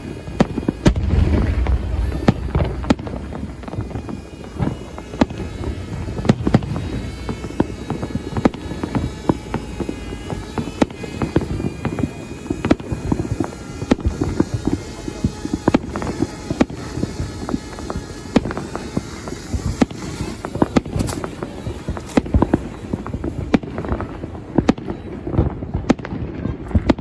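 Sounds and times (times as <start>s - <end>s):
fireworks bangs and crackles: 0.0s - 27.0s
loud sharp firework reports: 0.0s - 27.0s.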